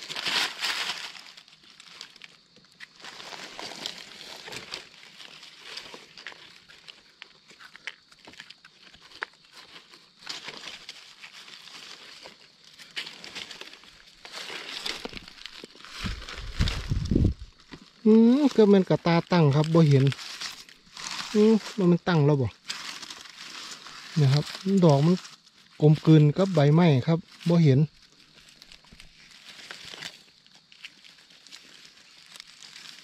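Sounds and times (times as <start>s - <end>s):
twigs snapping: 0.0s - 21.9s, 22.6s - 25.5s, 27.4s - 33.0s
dry leaves rustling and crackling: 0.0s - 33.0s.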